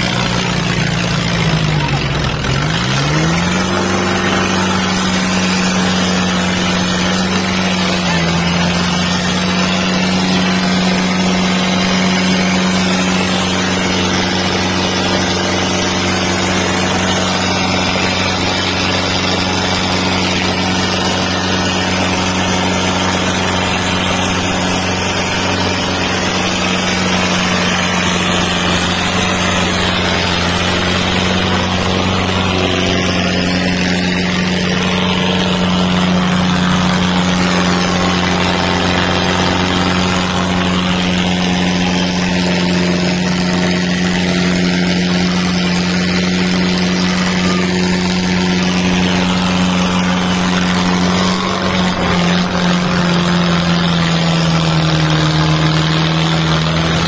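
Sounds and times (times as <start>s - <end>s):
tractor diesel engine straining: 0.0s - 57.0s.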